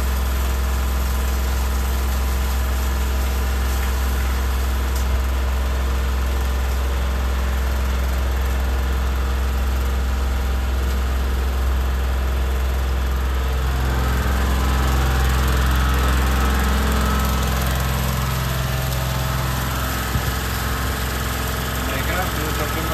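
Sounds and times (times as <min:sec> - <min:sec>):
engine idling with deep hum: 0:00.0 - 0:22.9.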